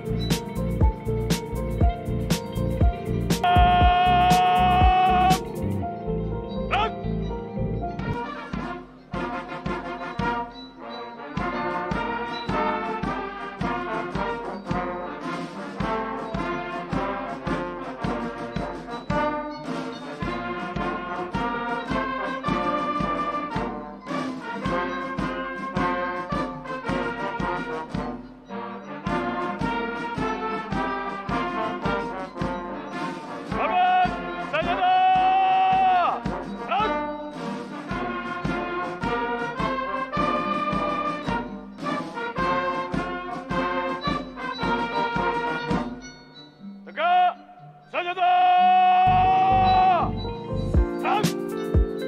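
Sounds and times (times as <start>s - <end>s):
brass music with steady beat: 0.0s - 6.1s, 8.0s - 46.2s, 49.1s - 52.0s.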